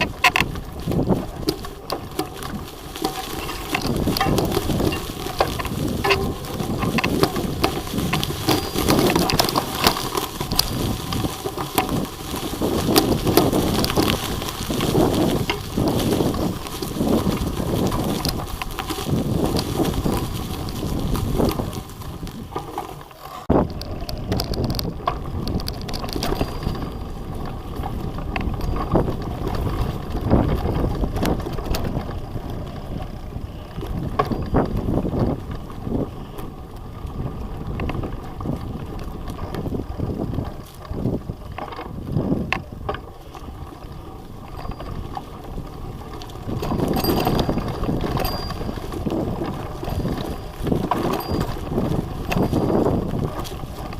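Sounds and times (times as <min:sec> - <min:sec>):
wind rushing over microphone: 0:00.0 - 0:22.7, 0:23.4 - 0:53.9
bicycle clicks and knocks: 0:00.0 - 0:53.9.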